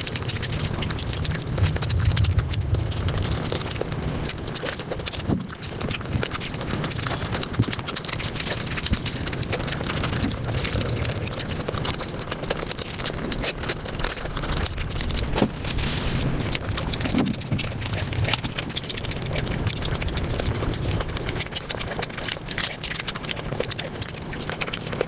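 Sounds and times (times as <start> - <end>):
sped up chewing sounds: 0.0 - 25.0.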